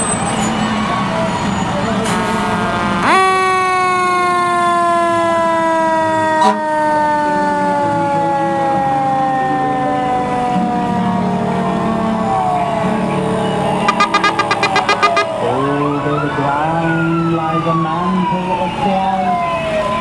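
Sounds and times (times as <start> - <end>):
fire truck siren winding down: 3.0 - 20.0.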